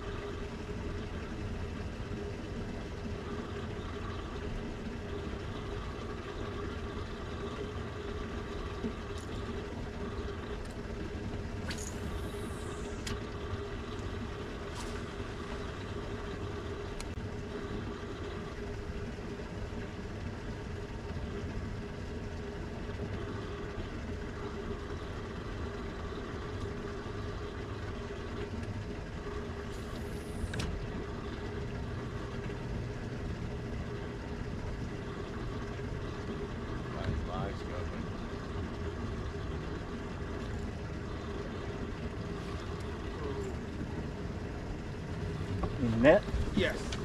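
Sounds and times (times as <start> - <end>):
electric trolling motor humming: 0.0 - 47.0.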